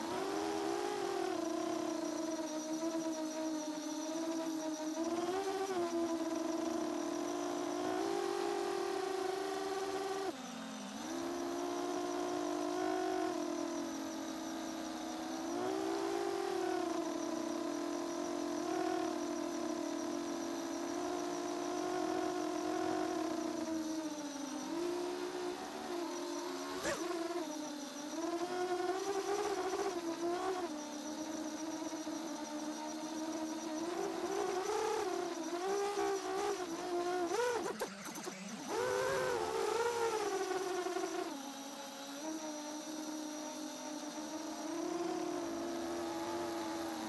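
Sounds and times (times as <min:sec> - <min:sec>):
drone propellers whining: 0:00.0 - 0:47.0.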